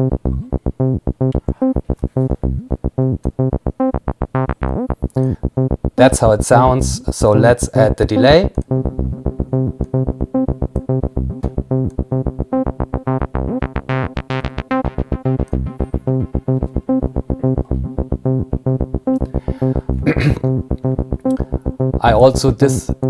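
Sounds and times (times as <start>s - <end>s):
squelchy acid synth bassline: 0.0s - 23.0s.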